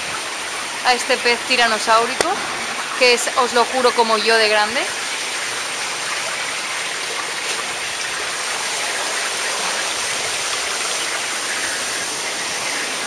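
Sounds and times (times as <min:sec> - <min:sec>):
bubbling water in tanks: 0:00.0 - 0:13.0.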